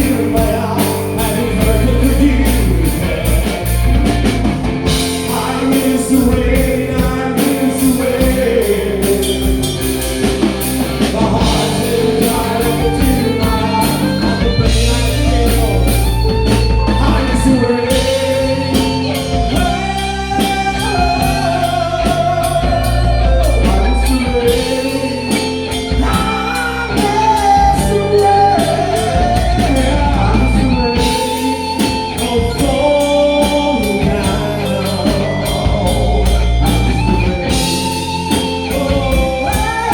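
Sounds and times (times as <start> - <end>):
rock song with singing: 0.0 - 39.9.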